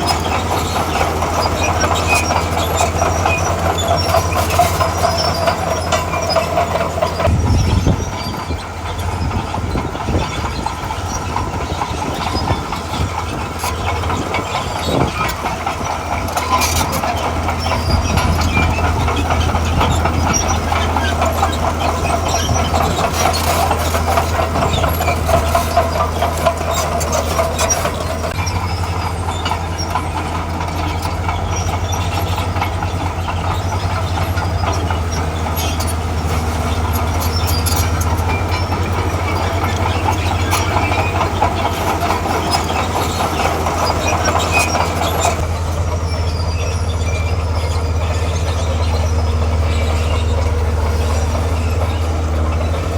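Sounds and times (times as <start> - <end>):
diesel engine under load: 0.0 - 52.9
steel tracks clanking: 0.0 - 52.9.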